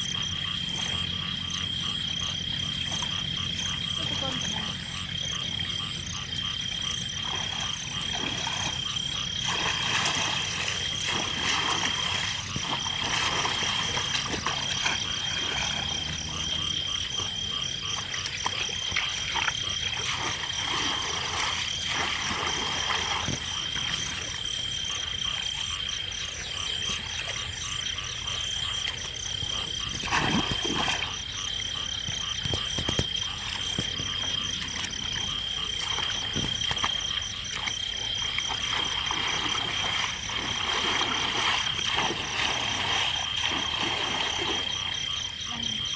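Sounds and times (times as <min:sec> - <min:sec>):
frogs croaking: 0:00.0 - 0:45.9.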